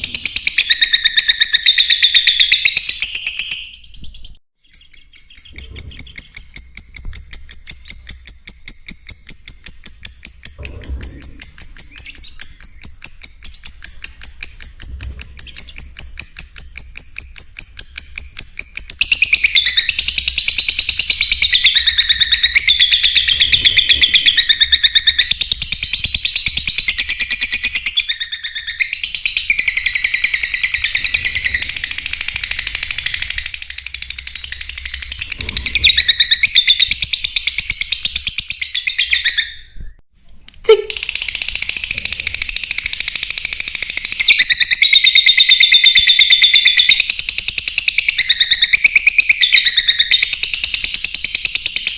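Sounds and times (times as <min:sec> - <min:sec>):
lovebirds chirping and chattering: 0:00.0 - 0:42.6.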